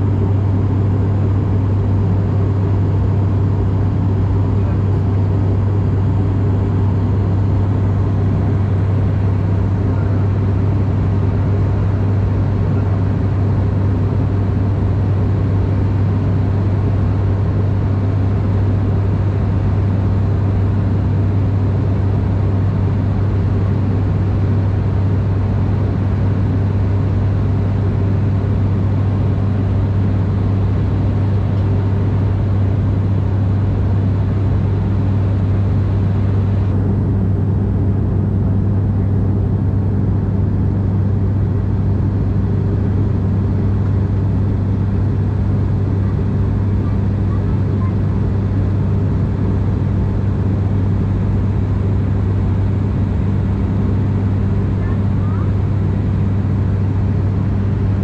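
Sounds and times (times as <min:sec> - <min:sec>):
propeller plane droning in cabin: 0:00.0 - 0:58.0.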